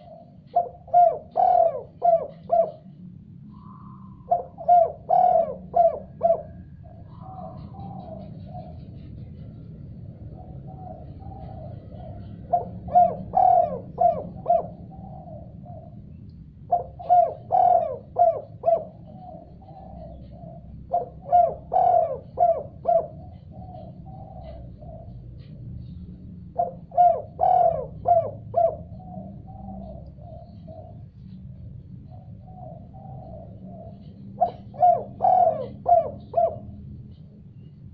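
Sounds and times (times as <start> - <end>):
dove cooing: 0.0 - 9.5, 10.2 - 31.4, 32.0 - 37.3.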